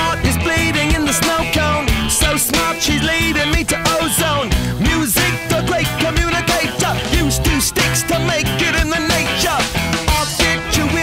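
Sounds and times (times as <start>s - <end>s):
rock song with drums and guitar: 0.0s - 11.0s.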